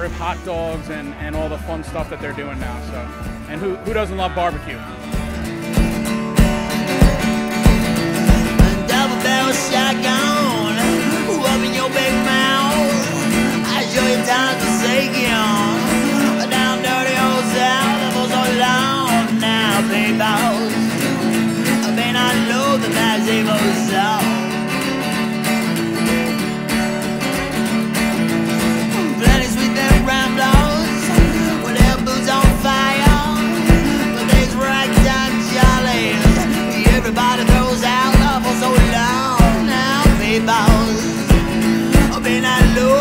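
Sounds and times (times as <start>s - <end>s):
bending lead guitar line: 0.0s - 43.0s
guitar strumming: 0.0s - 43.0s.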